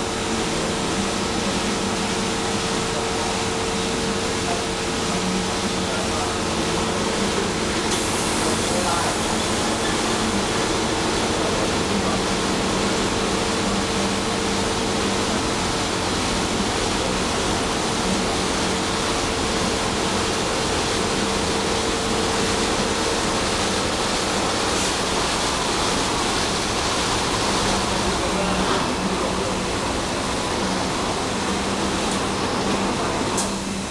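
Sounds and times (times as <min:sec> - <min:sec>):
car wash machine hum: 0:00.0 - 0:33.9
water spraying: 0:05.6 - 0:33.8.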